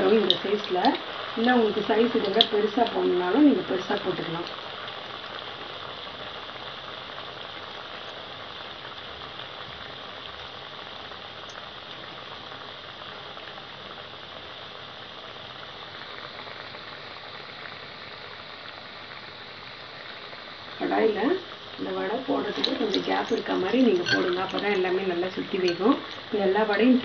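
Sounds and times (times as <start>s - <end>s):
oil sizzling and bubbling: 0.0s - 27.0s.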